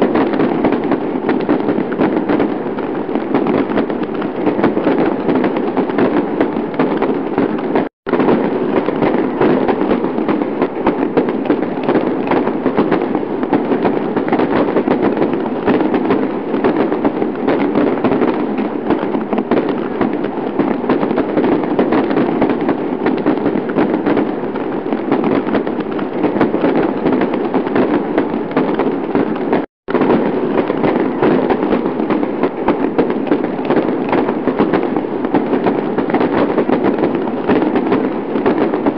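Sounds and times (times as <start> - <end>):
fireworks crackling bangs and pops: 0.0 - 38.9.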